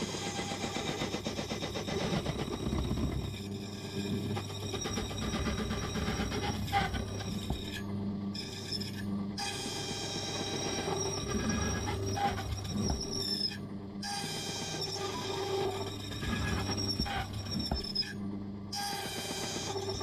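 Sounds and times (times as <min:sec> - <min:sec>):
motor hum: 0:00.0 - 0:20.0.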